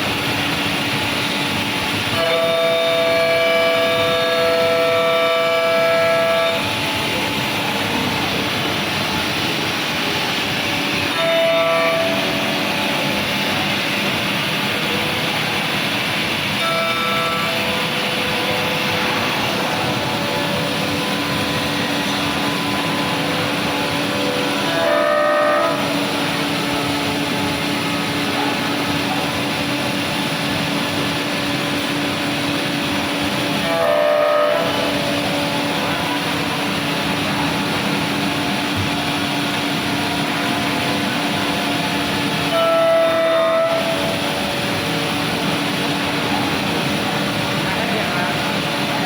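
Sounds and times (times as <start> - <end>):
high-pitched machine whine: 0.0 - 49.0
woodworking machine humming: 0.0 - 49.0.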